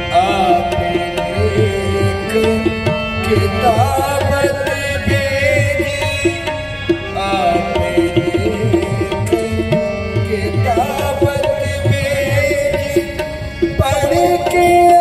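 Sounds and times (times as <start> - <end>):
harmonium notes: 0.0 - 15.0
man singing: 0.0 - 15.0
tabla playing driving rhythm: 0.0 - 15.0.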